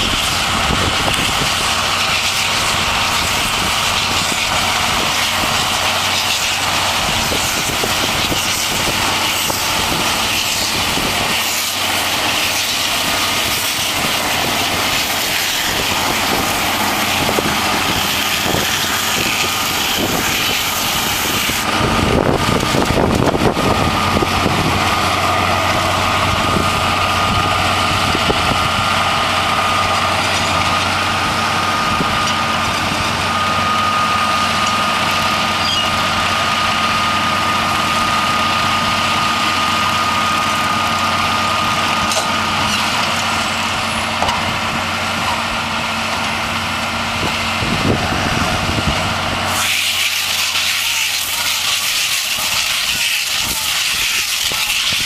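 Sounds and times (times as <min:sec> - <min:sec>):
steady high whine: 0:00.0 - 0:55.0
tractor and baler running: 0:00.0 - 0:55.0.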